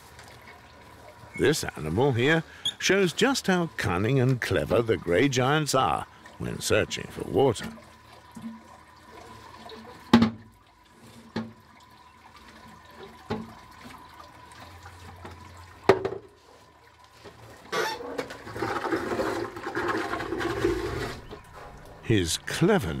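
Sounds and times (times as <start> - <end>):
water gushing: 0.0 - 23.0
water running and splashing: 0.0 - 23.0.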